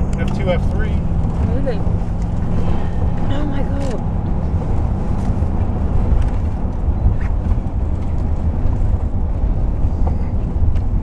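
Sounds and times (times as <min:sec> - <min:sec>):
car interior road rumble: 0:00.0 - 0:11.0
wind rushing: 0:00.0 - 0:11.0.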